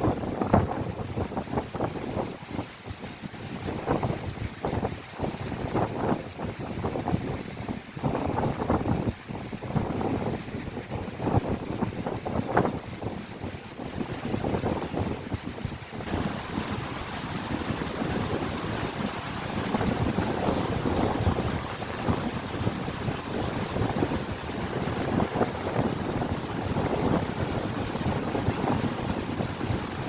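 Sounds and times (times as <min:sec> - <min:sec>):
storm wind buffeting microphone: 0:00.0 - 0:30.0.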